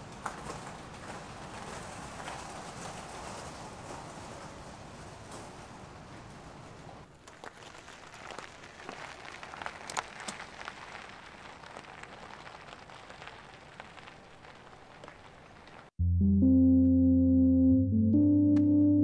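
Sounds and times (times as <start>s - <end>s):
bicycle tyres crunching on gravel: 0.0s - 15.9s.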